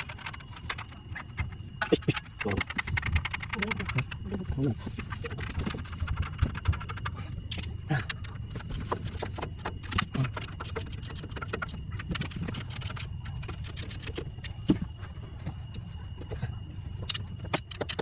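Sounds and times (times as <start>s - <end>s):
metallic clicks and rattles: 0.0s - 14.9s, 17.0s - 18.0s.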